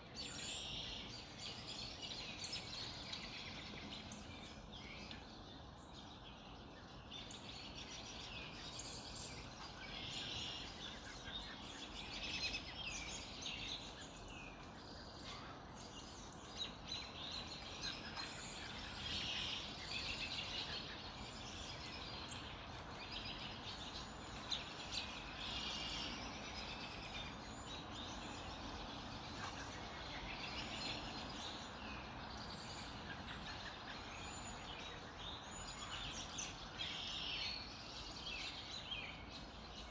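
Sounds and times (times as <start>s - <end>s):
low background hiss: 0.0s - 39.9s
small birds chirping: 0.0s - 39.9s.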